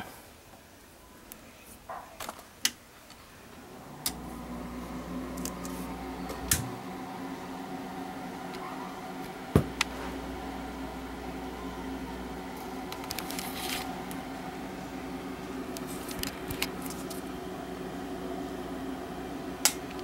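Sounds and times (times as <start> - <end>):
low steady hum: 3.5 - 20.0.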